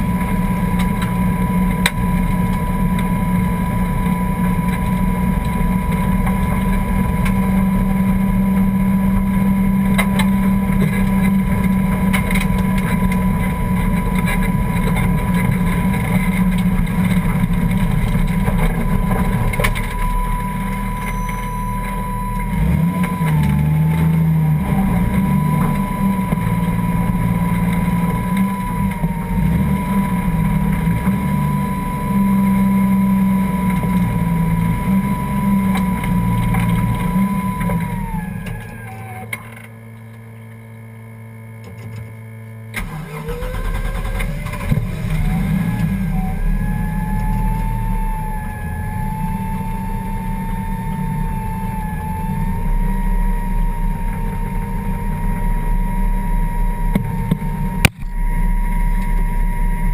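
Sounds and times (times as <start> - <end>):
race car engine idling: 0.0 - 40.4, 42.8 - 59.9.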